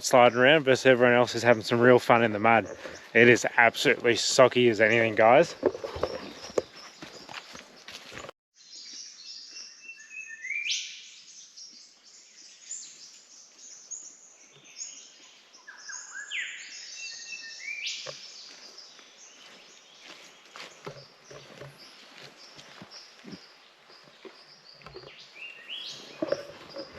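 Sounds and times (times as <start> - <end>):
birds chirping and whistling: 0.0 - 20.3, 21.0 - 26.9.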